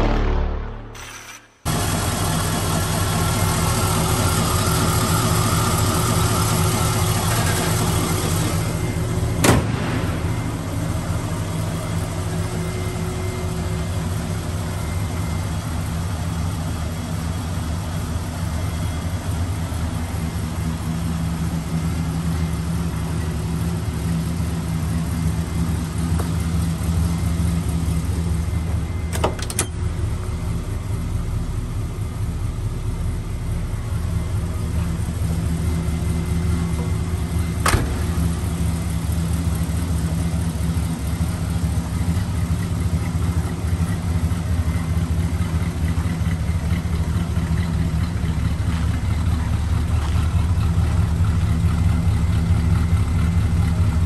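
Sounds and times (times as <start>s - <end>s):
car engine idling: 1.7s - 54.0s.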